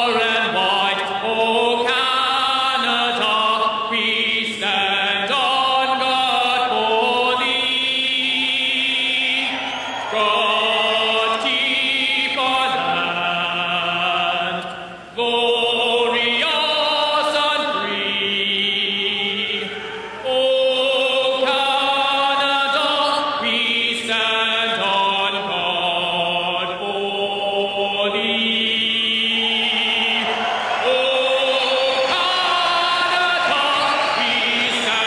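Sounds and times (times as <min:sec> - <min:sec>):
arena crowd singing along: 0:00.0 - 0:35.0
man singing anthem: 0:00.0 - 0:35.0.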